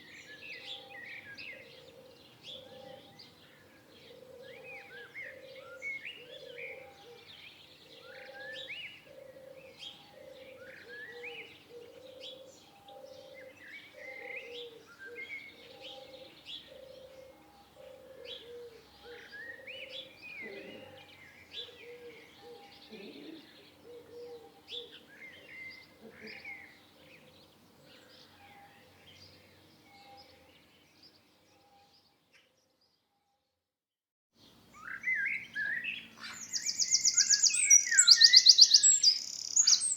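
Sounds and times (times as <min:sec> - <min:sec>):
songbirds chirping and whistling: 0:00.0 - 0:32.9, 0:34.4 - 0:39.9.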